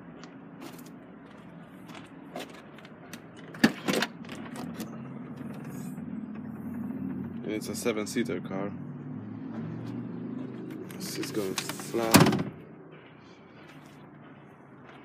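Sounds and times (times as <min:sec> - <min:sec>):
diesel engine idling: 0:00.1 - 0:15.0.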